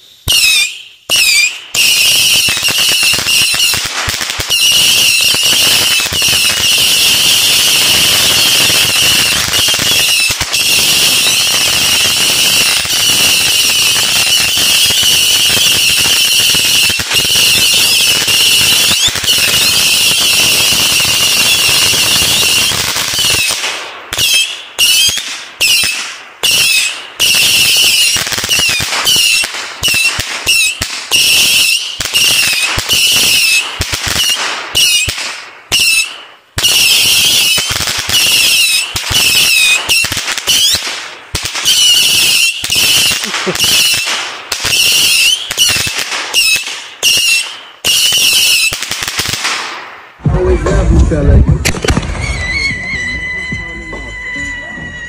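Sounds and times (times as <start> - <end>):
firework crackle: 0.0 - 55.0
whistling firework shots: 0.0 - 55.0.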